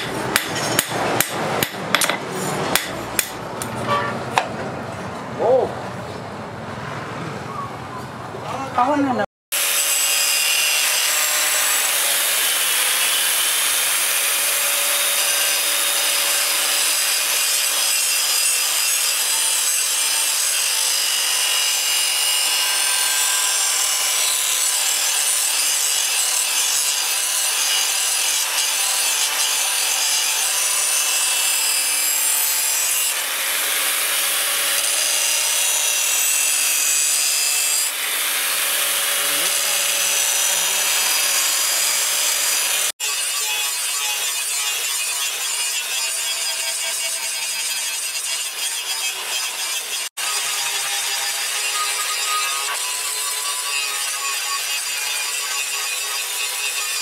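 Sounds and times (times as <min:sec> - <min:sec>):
angle grinder grinding steel: 0:09.6 - 0:57.0.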